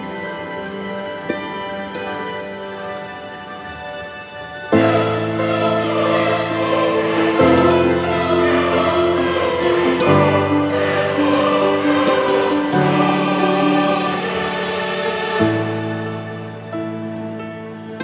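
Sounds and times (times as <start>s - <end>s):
choir-like sustained chords: 0.0s - 18.0s.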